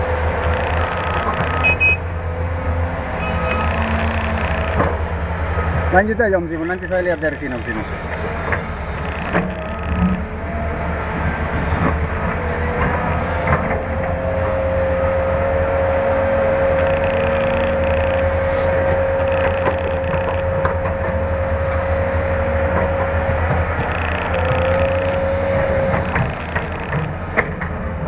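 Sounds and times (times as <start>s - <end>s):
excavator diesel engine under load: 0.0s - 28.0s.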